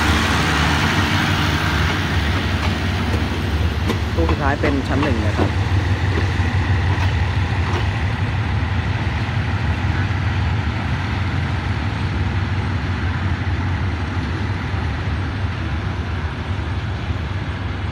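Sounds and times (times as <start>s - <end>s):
diesel train rumbling: 0.0s - 17.9s.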